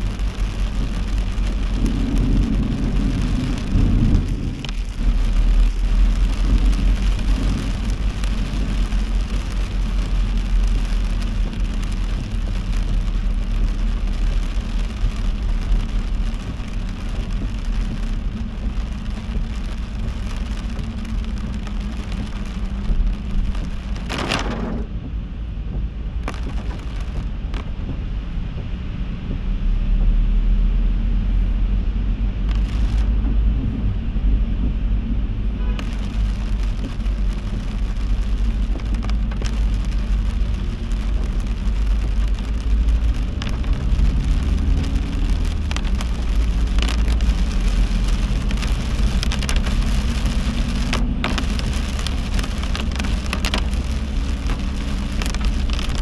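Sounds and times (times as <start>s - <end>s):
heavy rain hissing: 0.0s - 24.9s, 26.2s - 27.8s, 32.5s - 33.1s, 35.6s - 56.0s
car driving on wet road: 0.0s - 56.0s.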